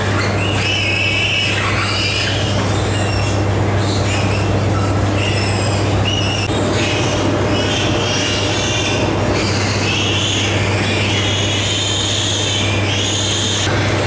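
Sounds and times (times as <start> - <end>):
piglets squealing: 0.0 - 14.0
steady low hum: 0.0 - 14.0.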